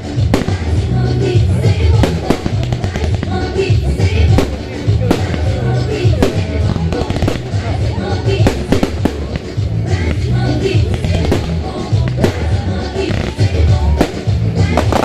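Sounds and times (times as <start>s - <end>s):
fireworks bangs and crackles: 0.0s - 15.0s
loud music with heavy bass: 0.0s - 15.0s.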